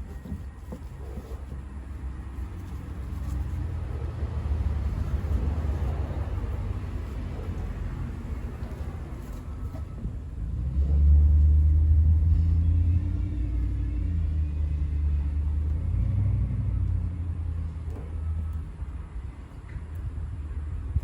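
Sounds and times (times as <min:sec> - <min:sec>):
vehicle engine rumble: 0:00.0 - 0:21.0.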